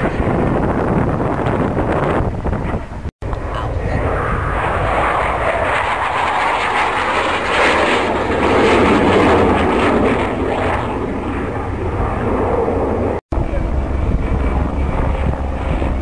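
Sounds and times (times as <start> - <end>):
aircraft engines flying low: 0.0 - 16.0.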